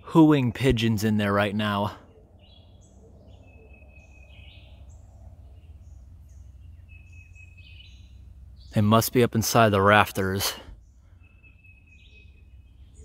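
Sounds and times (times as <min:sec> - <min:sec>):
small birds chirping: 0:00.0 - 0:13.0
steady low rumble: 0:02.0 - 0:13.0.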